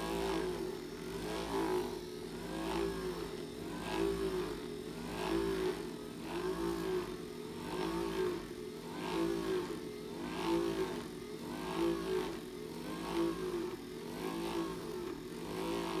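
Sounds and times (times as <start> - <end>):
massager motor hum: 0.0 - 16.0.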